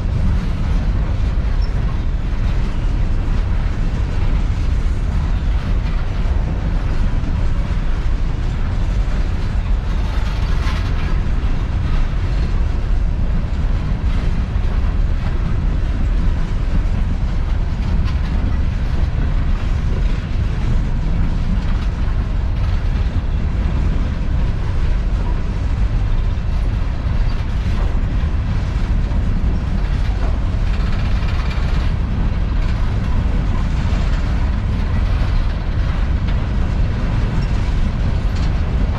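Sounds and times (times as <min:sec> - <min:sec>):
freight train rolling past: 0:00.0 - 0:38.9
steel wheels on rail: 0:00.0 - 0:38.9.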